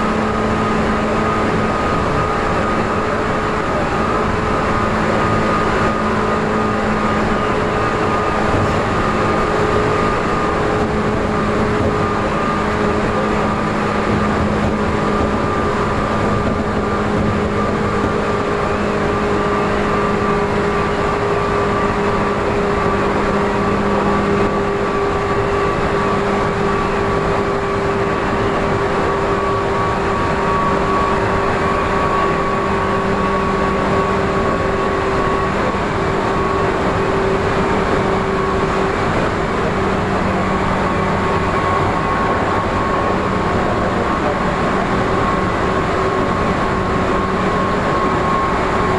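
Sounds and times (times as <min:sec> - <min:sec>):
electric train motor whine: 0:00.0 - 0:48.9
wheels rumbling on track: 0:00.0 - 0:48.9.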